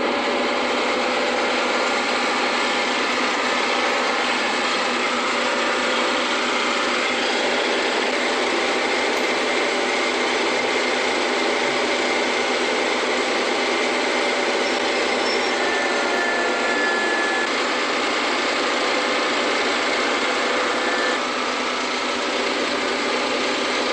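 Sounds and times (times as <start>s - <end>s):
harvesting machinery running: 0.0s - 23.9s.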